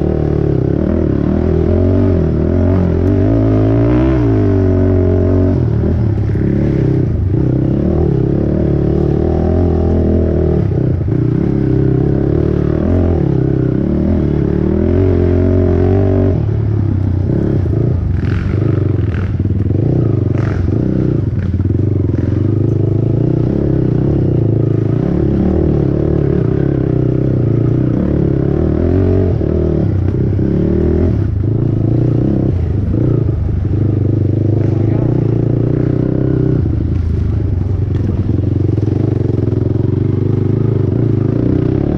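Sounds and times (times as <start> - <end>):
quad engine revving: 0.0 - 41.9.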